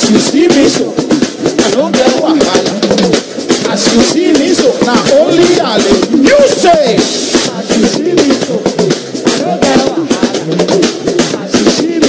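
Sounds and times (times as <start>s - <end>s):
gospel band playing: 0.0s - 12.0s
percussion beat: 0.0s - 12.0s
man singing into a microphone: 1.6s - 12.0s.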